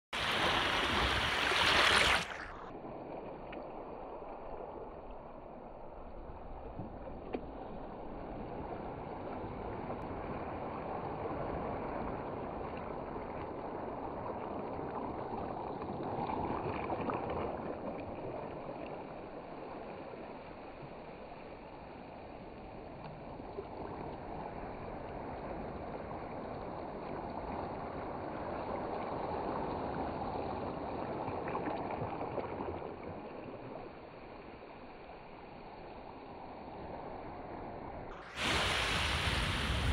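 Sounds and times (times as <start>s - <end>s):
small waves washing over pebbles: 0.2s - 39.9s.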